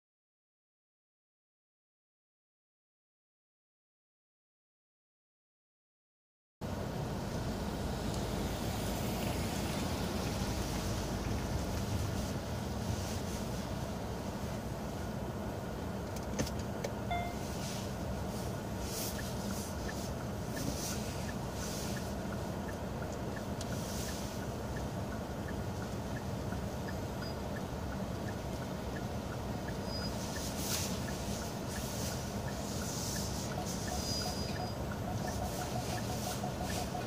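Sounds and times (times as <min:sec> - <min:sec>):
car engine idling: 0:06.6 - 0:37.0.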